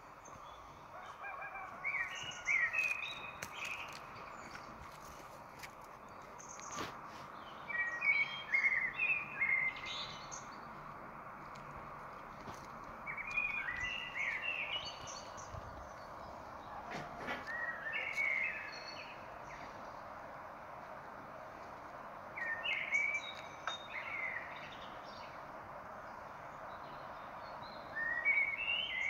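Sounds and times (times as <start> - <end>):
forest ambience hiss: 0.0 - 29.0
songbird singing: 0.0 - 29.0.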